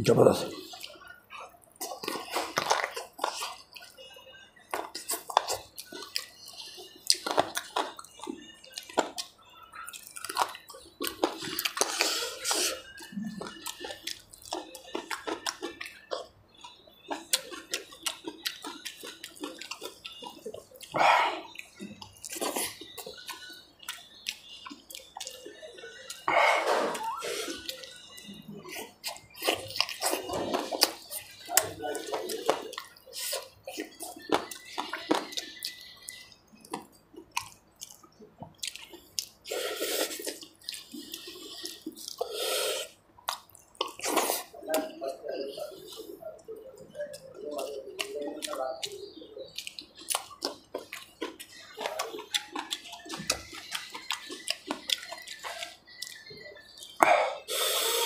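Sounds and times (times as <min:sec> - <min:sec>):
man chewing and lip-smacking: 0:00.0 - 0:58.0.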